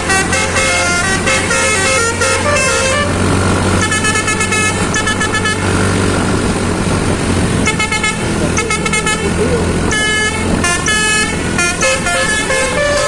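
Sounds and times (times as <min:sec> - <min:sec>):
low rumble of bus: 0:00.0 - 0:13.0
musical bus horn chords: 0:00.0 - 0:13.0.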